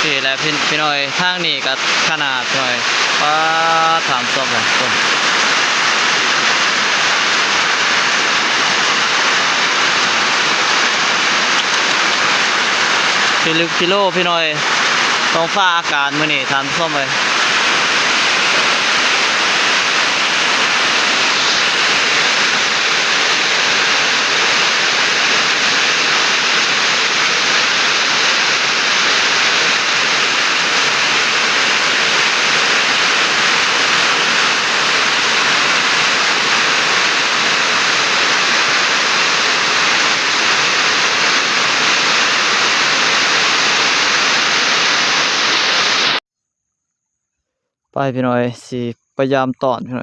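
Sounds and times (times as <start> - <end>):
heavy rain falling: 0.0 - 46.2.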